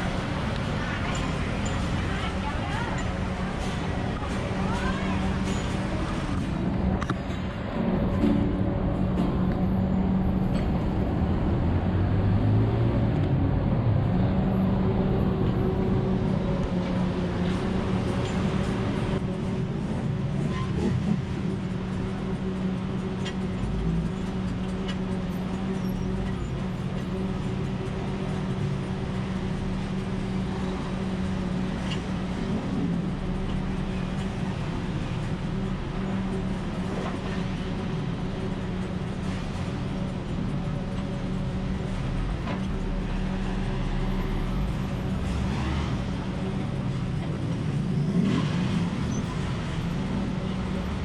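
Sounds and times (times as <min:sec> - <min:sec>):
vehicle engine hum: 0:00.0 - 0:51.0.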